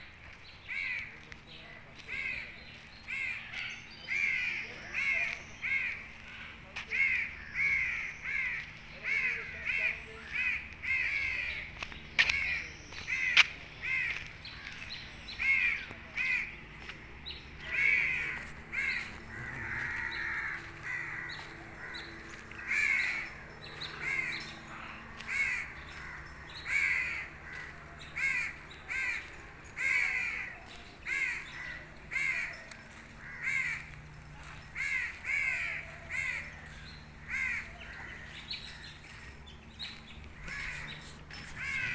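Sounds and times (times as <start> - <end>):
bird calling: 0.6 - 41.9.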